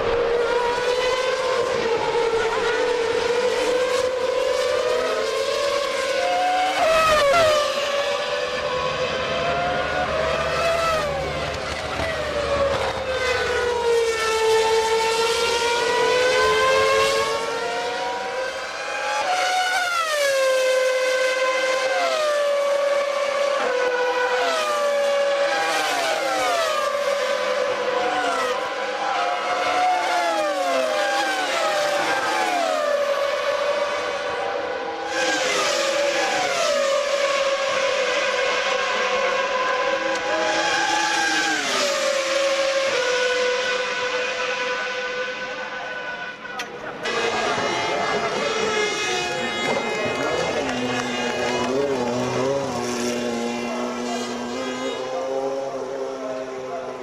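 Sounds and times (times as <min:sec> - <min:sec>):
race car engines at high revs: 0:00.0 - 0:57.0.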